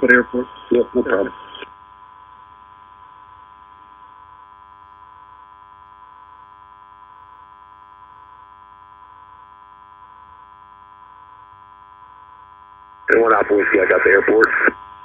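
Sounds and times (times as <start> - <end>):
radio hum and hiss: 0.0 - 15.0.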